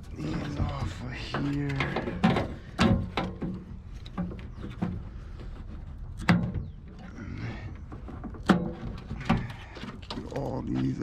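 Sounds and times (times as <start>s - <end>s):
scrap parts knocking and clunking: 0.0s - 11.0s.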